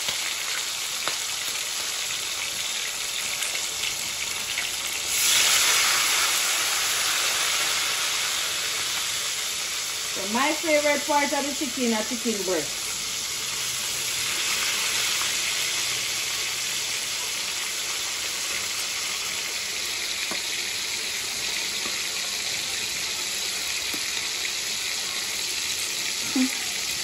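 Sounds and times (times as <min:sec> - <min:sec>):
chicken sizzling in oil: 0:00.0 - 0:27.0.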